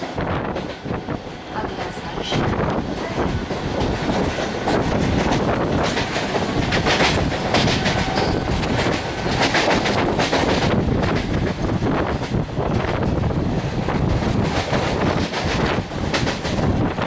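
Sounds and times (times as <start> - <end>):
train rushing rumble: 0.0 - 17.0.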